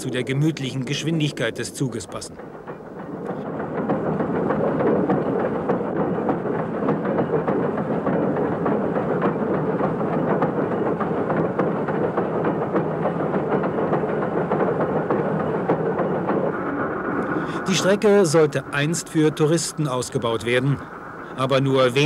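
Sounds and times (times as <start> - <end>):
steam locomotive clattering: 0.0 - 22.0.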